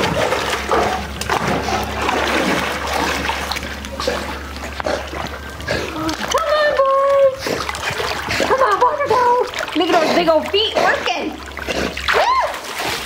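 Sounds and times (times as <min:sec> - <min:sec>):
dog swimming and splashing: 0:00.0 - 0:13.0.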